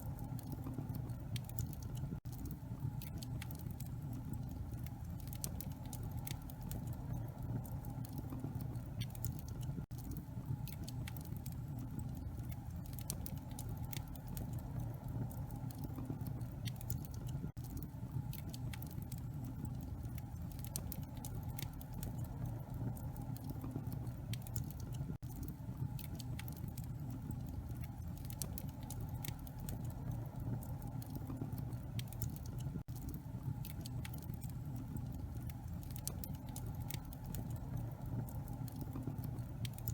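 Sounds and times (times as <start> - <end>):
fire roaring in fireplace: 0.0 - 39.9
logs crackling and popping: 0.0 - 39.9.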